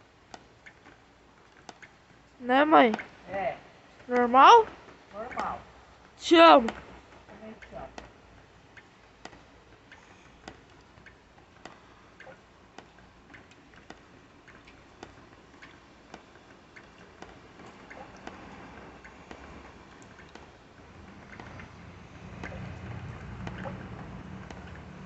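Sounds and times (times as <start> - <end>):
water drops dripping: 0.0 - 3.2, 3.8 - 25.0.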